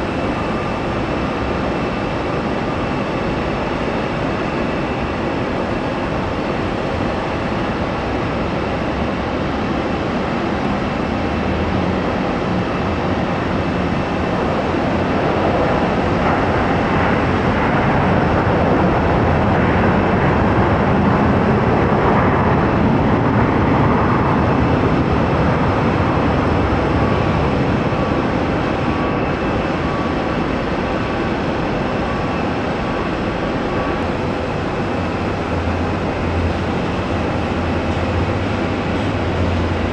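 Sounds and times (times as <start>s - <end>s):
jet engines passing by: 0.0s - 39.9s.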